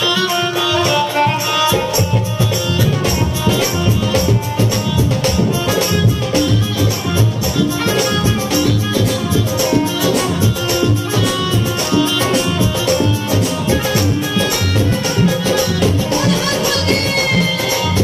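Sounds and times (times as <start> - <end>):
fast percussion beat: 0.0 - 18.0
sustained melody line: 0.0 - 18.0.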